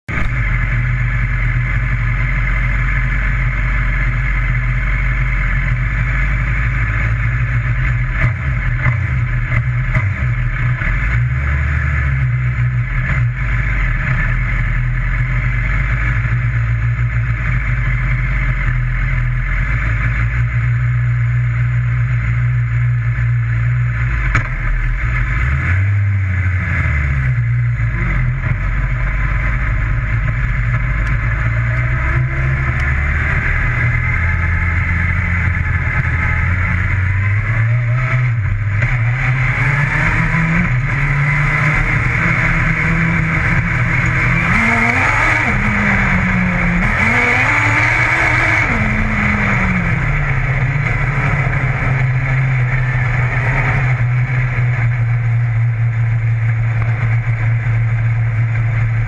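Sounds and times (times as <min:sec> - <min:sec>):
race car engine idling: 0:00.0 - 0:59.0.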